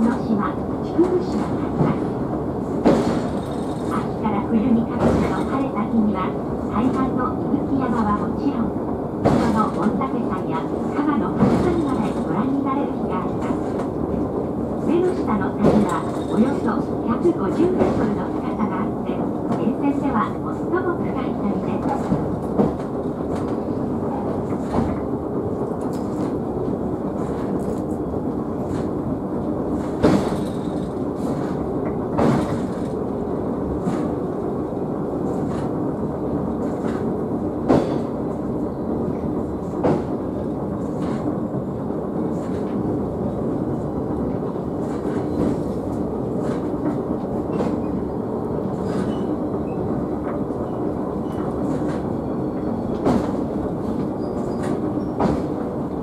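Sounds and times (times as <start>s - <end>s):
wheels rumbling on rails: 0.0s - 8.6s, 9.2s - 56.0s.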